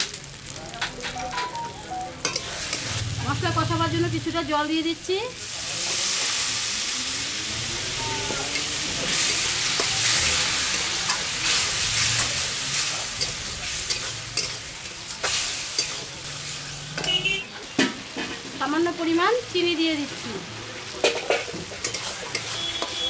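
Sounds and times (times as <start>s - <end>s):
masala sizzling in hot oil: 0.0s - 23.0s.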